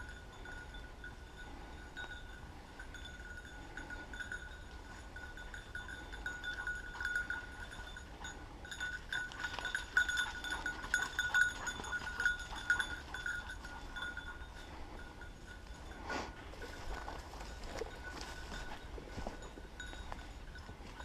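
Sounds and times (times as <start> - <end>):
dog collar bell ringing: 0.0 - 21.0.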